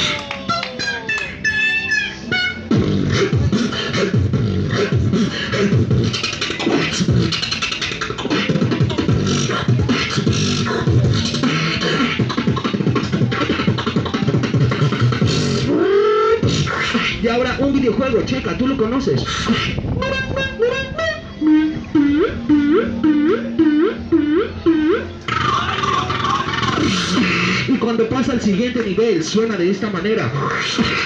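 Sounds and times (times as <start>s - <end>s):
beatboxing through microphone: 0.0s - 31.0s.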